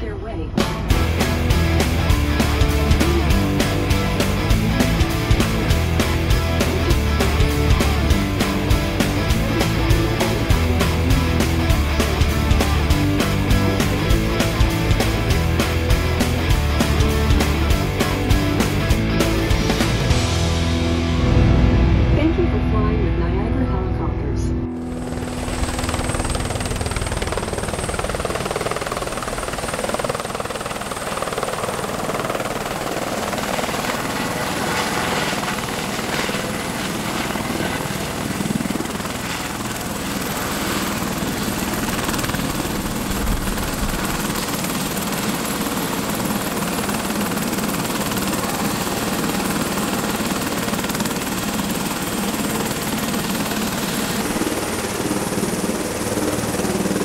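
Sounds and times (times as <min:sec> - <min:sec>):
helicopter rotor and engine: 0:00.0 - 0:20.4, 0:24.6 - 0:57.0.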